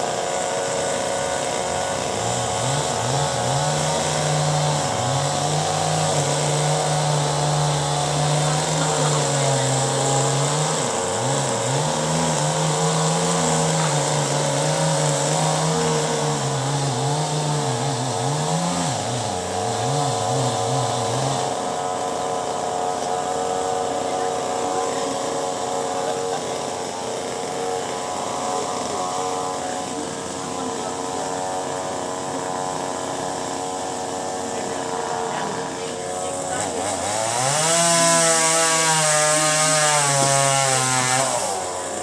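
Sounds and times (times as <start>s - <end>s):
chainsaw cutting wood: 0.0s - 42.0s.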